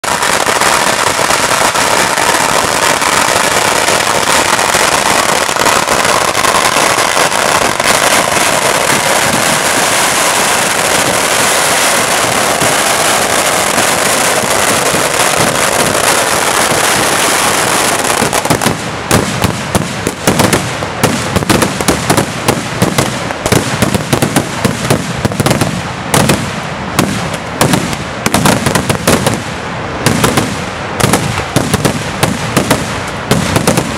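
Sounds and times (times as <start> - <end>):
firecrackers crackling and banging: 0.0 - 33.9.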